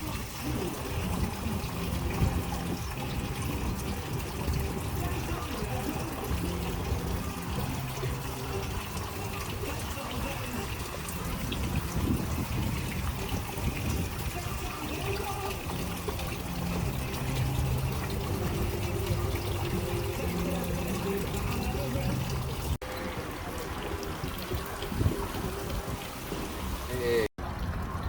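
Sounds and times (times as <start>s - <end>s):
trickling water: 0.0s - 28.0s.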